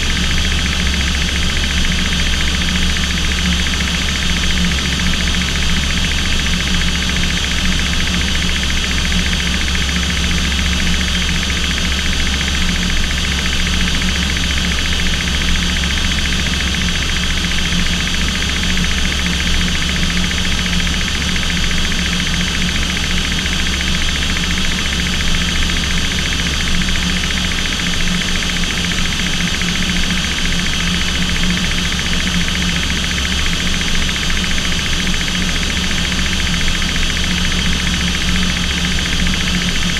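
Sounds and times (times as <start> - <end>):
aircraft engine drone in cockpit: 0.0 - 39.9.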